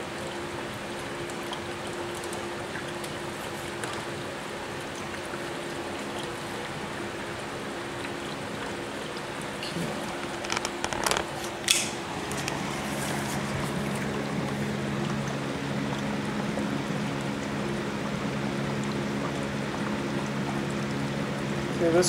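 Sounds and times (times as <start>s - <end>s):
electrical hum: 0.0s - 22.0s
fizzing and bubbling: 0.0s - 22.0s.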